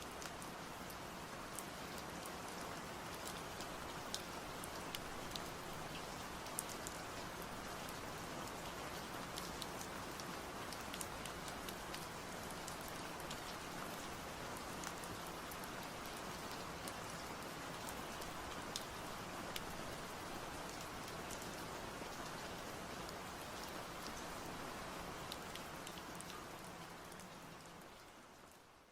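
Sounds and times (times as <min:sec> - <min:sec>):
steady rain hiss: 0:00.0 - 0:28.9.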